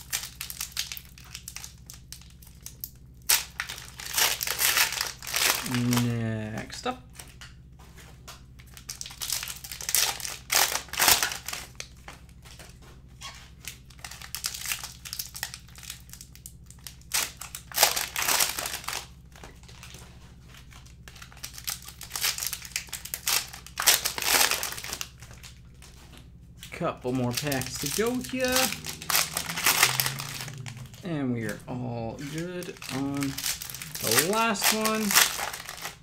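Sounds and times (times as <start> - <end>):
plastic wrappers crinkling: 0.0 - 7.4, 8.6 - 12.1, 13.2 - 36.0.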